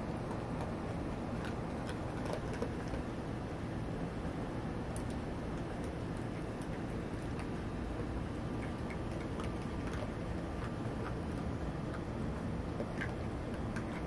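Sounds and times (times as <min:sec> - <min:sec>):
animals crunching dry kibble: 0:00.0 - 0:14.0
low background hum: 0:00.0 - 0:14.0.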